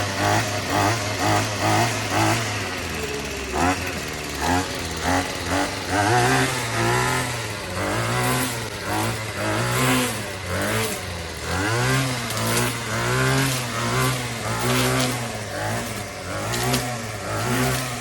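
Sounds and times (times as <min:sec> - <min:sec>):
string trimmer engine revving: 0:00.0 - 0:18.0.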